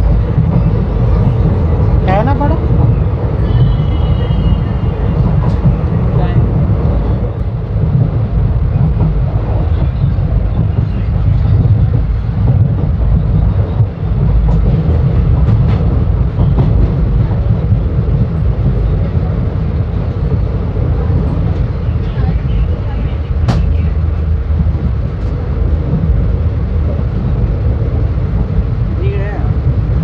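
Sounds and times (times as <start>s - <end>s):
train coach rumbling on track: 0.0s - 30.0s.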